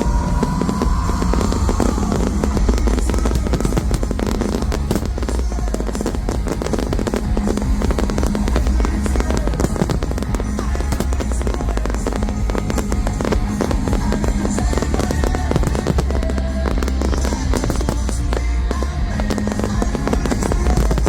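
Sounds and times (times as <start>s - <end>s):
fireworks banging and crackling: 0.0s - 21.0s
music over public-address system: 0.0s - 21.0s.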